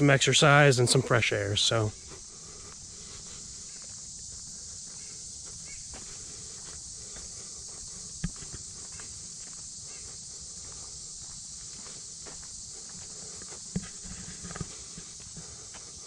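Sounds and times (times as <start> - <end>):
footsteps on dirt trail: 0.0 - 16.0
high-pitched insect hum: 0.0 - 16.0.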